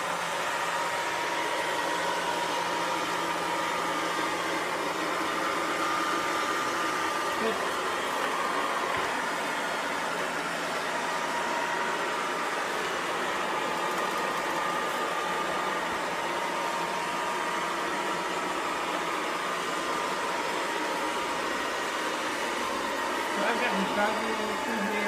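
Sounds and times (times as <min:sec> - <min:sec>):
robot vacuum cleaner whirring: 0:00.0 - 0:25.0.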